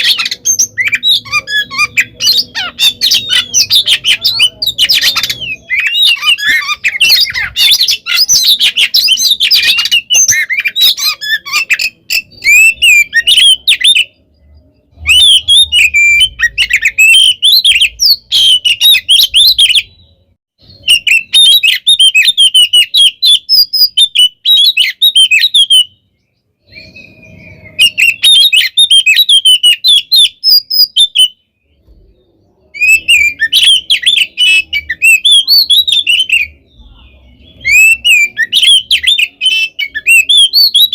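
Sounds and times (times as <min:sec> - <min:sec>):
bird singing whistles and chatter: 0:00.0 - 0:40.9.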